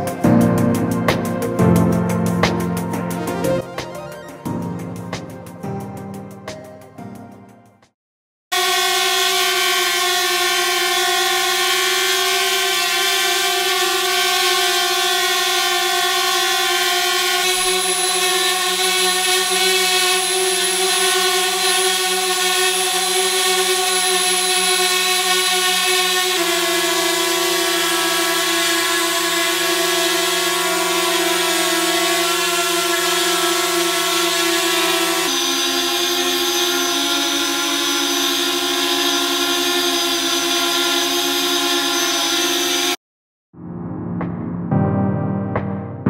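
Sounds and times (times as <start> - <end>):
drone propellers buzzing: 0.0 - 5.7, 8.6 - 43.0.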